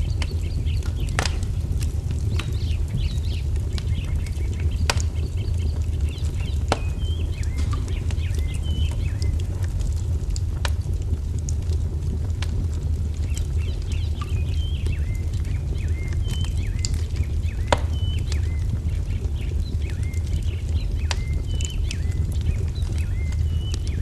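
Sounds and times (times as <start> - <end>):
small birds chirping: 0.0 - 10.4, 13.1 - 24.0
low rumble: 0.0 - 21.5
wood fire crackling and popping: 0.0 - 24.0.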